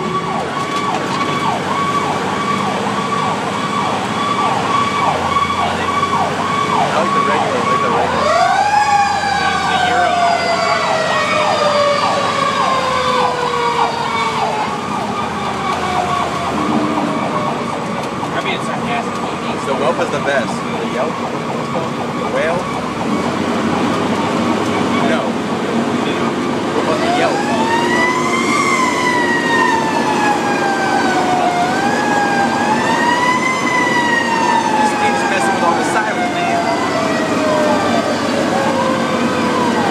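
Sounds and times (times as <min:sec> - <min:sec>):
electronic siren yelping: 0:00.0 - 0:25.2, 0:26.1 - 0:39.9
mechanical siren winding down: 0:00.0 - 0:25.3, 0:26.2 - 0:39.9
truck engine rumble: 0:00.0 - 0:39.9.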